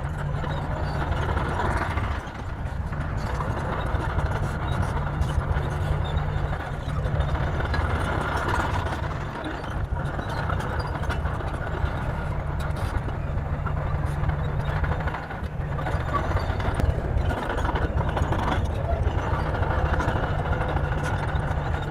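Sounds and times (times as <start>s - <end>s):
bulldozer diesel engine running: 0.0s - 21.9s.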